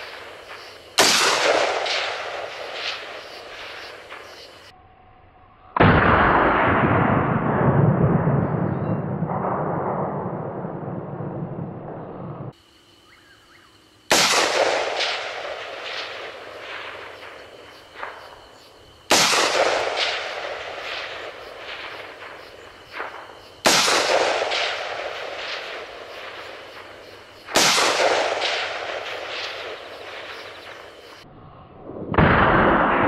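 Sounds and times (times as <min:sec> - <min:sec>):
rifle shots with echo: 0:00.0 - 0:04.7, 0:05.8 - 0:12.1, 0:14.1 - 0:18.4, 0:19.1 - 0:31.2, 0:32.1 - 0:33.0.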